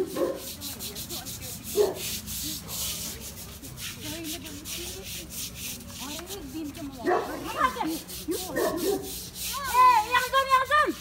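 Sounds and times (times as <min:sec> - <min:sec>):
stiff brush scrubbing wet stone: 0:00.0 - 0:11.0.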